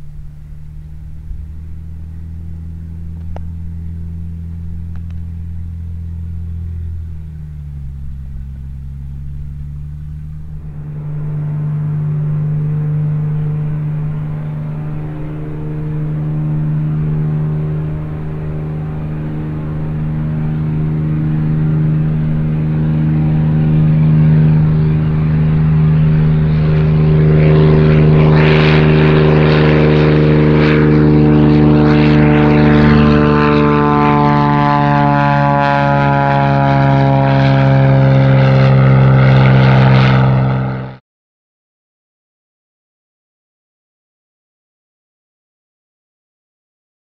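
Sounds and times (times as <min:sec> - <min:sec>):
propeller airplane engine drone: 0:00.0 - 0:41.0.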